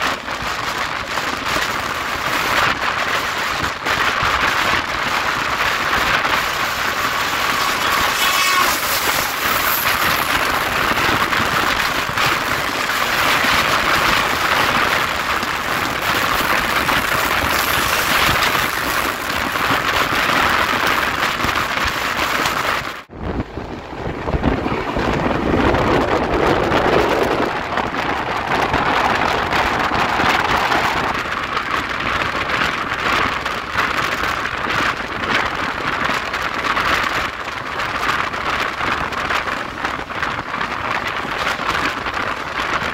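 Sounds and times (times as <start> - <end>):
train rushing at speed: 0.0 - 42.9.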